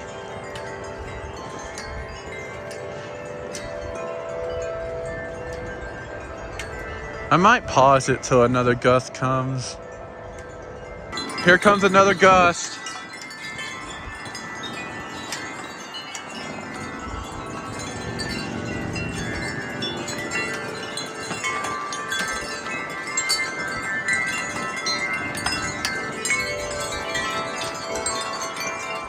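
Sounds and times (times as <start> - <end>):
wind chimes ringing: 0.0 - 29.0.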